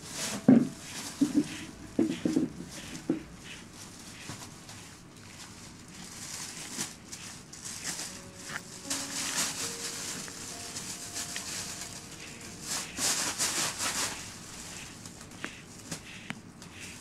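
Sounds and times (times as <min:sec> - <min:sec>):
brush rubbing through fur: 0:00.0 - 0:17.0.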